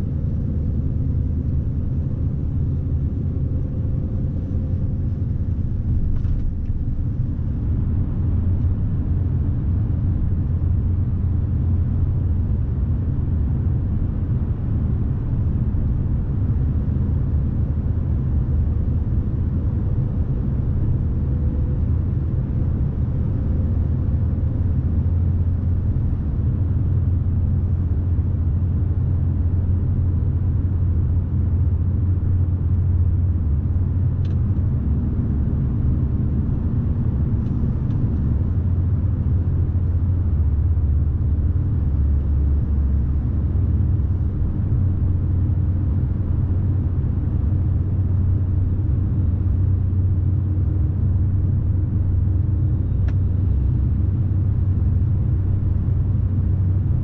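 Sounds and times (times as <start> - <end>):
road rumble: 0.0 - 57.0
truck diesel engine drone: 0.0 - 57.0.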